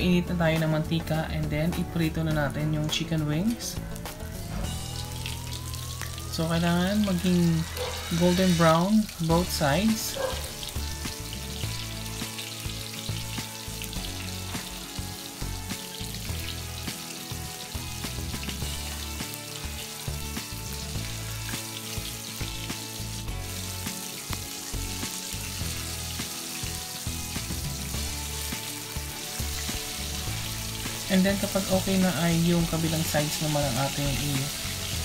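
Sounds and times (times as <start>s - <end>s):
background music: 0.0s - 35.0s
chicken wings sizzling in oil: 0.0s - 35.0s.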